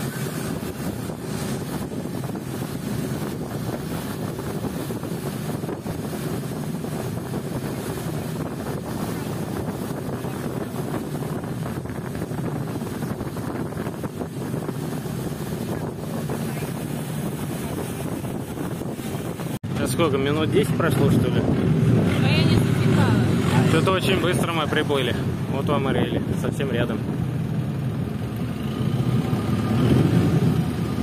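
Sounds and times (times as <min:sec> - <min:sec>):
wind buffeting microphone: 0:00.0 - 0:28.2
boat engine running: 0:00.0 - 0:31.0.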